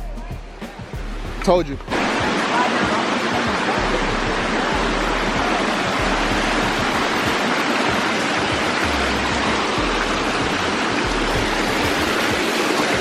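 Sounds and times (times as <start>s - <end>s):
waterfall rushing water: 0.7s - 13.0s.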